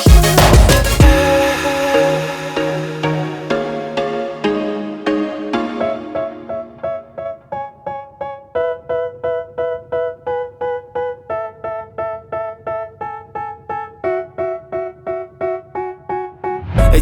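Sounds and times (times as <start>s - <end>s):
electric piano repeated notes: 0.0s - 16.6s.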